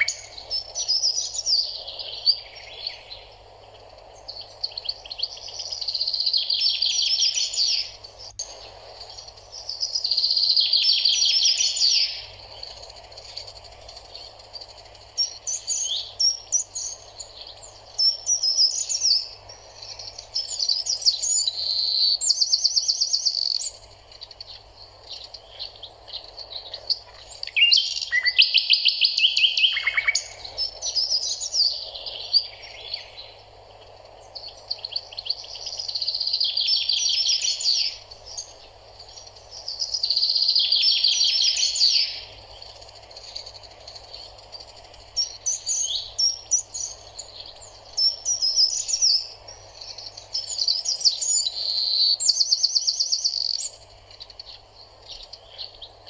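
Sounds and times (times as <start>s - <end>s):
faint steady hum: 0.0s - 56.0s
songbirds chirping and trilling: 0.0s - 56.0s.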